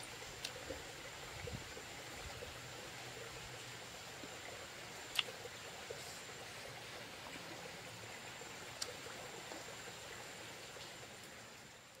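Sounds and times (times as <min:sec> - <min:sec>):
flowing stream: 0:00.0 - 0:12.0.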